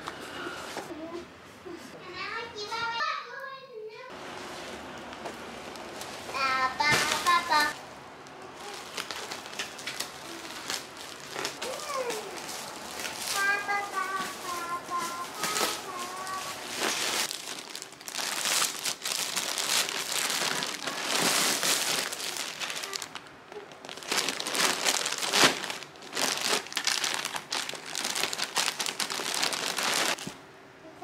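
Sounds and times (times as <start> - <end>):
plastic packaging crinkling: 5.0 - 30.4.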